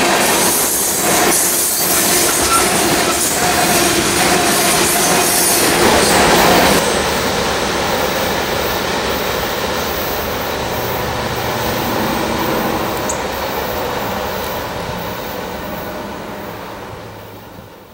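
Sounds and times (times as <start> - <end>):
freight train rolling past: 0.0 - 17.9.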